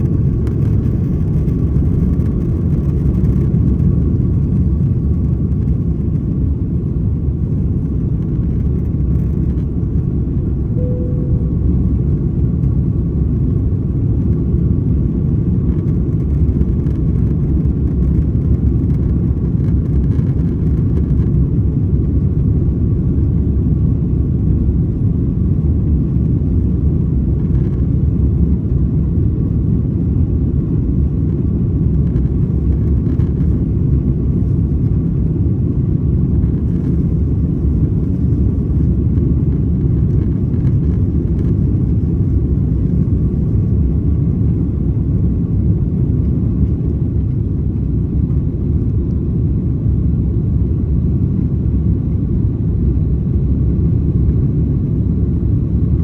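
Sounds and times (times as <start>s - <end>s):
faint steady whine: 0.0s - 56.0s
jet engine rumble in cabin: 0.0s - 56.0s.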